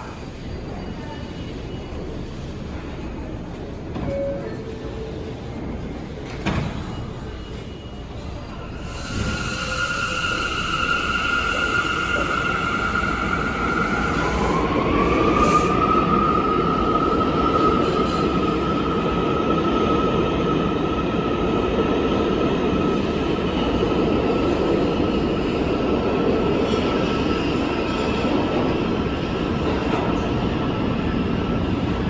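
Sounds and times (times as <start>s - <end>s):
subway train wheels rumbling on rail: 0.0s - 32.0s.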